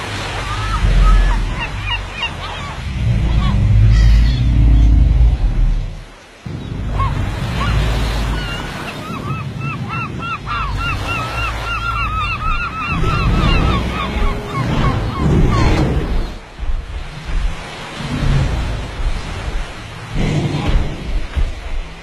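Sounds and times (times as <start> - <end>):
sea noise: 0.0 - 22.0
wind: 0.0 - 22.0.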